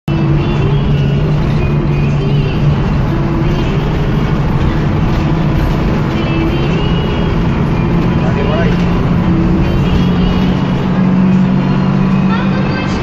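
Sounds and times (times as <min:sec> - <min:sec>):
bus engine running: 0:00.0 - 0:13.0
road and drivetrain noise: 0:00.0 - 0:13.0.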